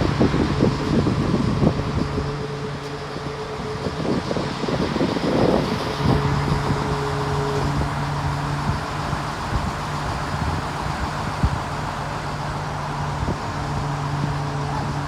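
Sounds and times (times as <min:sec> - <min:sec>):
engine humming: 0:00.0 - 0:15.0
wind noise on microphone: 0:00.0 - 0:15.0.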